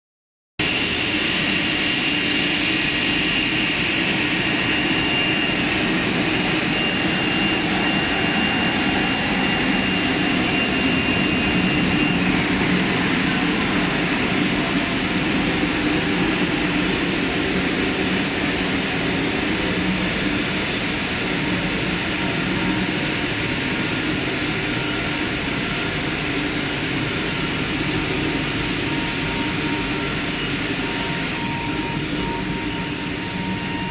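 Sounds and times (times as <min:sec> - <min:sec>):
faint high whine: 0:00.6 - 0:33.9
loud steady machine noise: 0:00.6 - 0:33.9.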